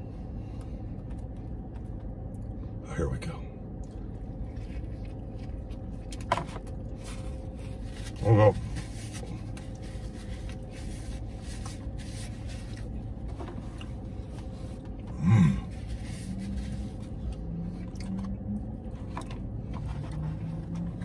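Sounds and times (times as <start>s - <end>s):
man chewing: 3.7s - 21.0s.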